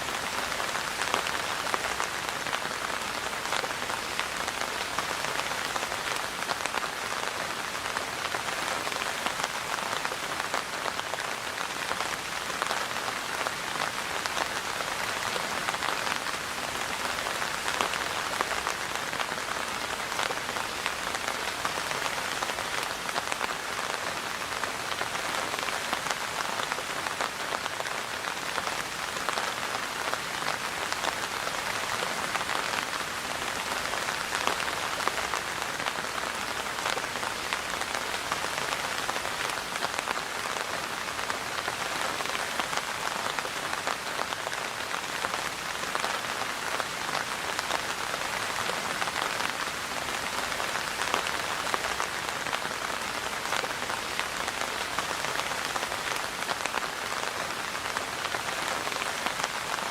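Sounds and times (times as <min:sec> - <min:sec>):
rain pattering on a surface: 0:00.0 - 0:59.9.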